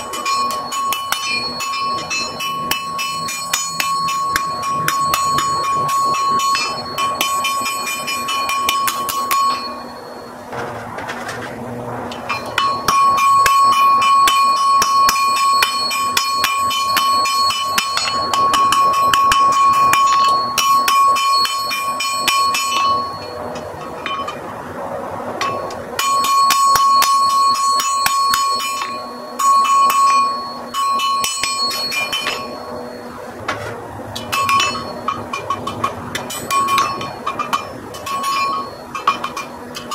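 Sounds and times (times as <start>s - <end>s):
anvil ringing: 0.0s - 10.5s, 12.1s - 24.5s, 25.4s - 33.3s, 34.1s - 39.9s
hammer striking iron on anvil: 0.0s - 10.8s, 12.1s - 24.5s, 25.4s - 39.9s.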